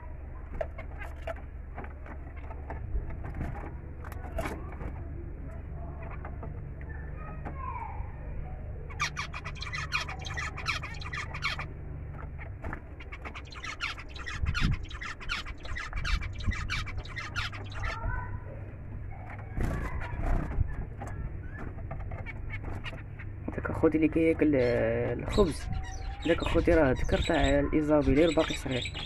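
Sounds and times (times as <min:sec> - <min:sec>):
low steady hum: 0:00.0 - 0:29.0
finches chirping and chattering: 0:00.3 - 0:29.0.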